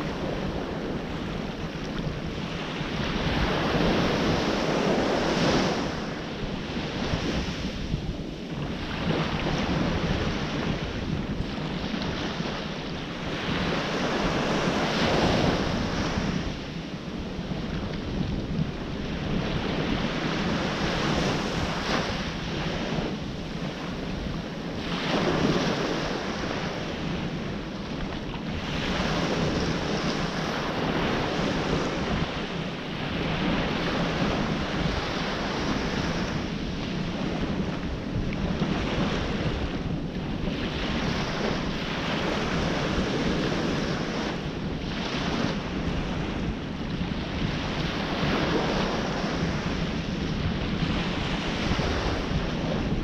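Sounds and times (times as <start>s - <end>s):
ocean surf breaking: 0.0s - 53.0s
wind noise on microphone: 0.0s - 53.0s.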